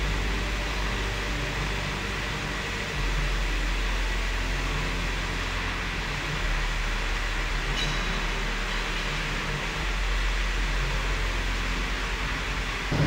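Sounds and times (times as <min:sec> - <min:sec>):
turbine generators whirring: 0:00.0 - 0:13.0.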